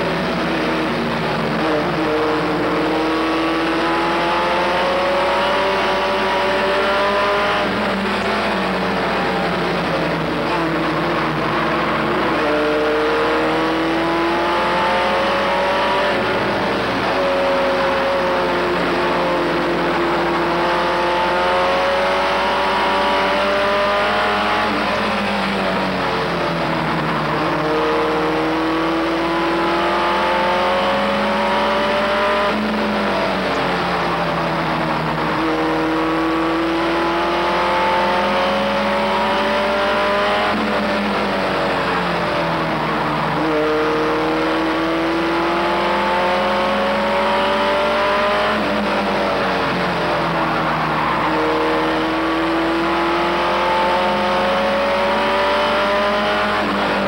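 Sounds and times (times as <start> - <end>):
race truck engine revving: 0.0 - 57.0.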